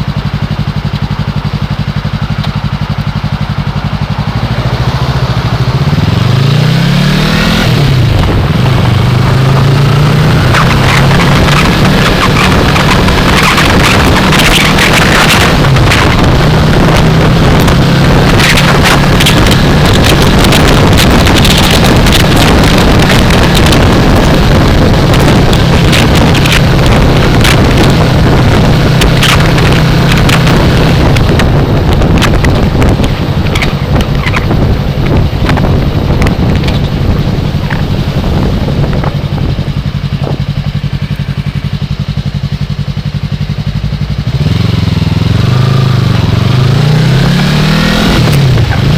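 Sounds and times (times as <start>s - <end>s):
motorcycle engine running: 0.0s - 48.9s
wind rushing over microphone: 2.9s - 48.9s.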